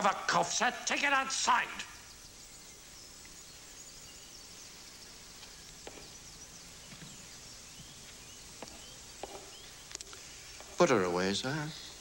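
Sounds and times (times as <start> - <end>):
faint bird chirps: 1.4 - 12.0.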